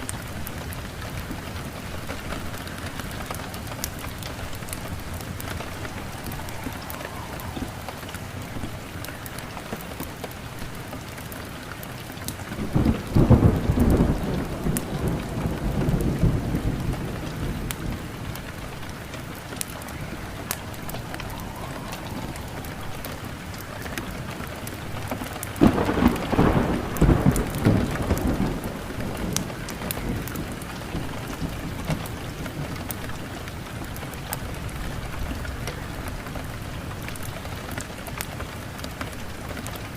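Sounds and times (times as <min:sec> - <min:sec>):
steady rain: 0:00.0 - 0:39.9
thunder rolling: 0:00.3 - 0:09.9, 0:12.5 - 0:37.5.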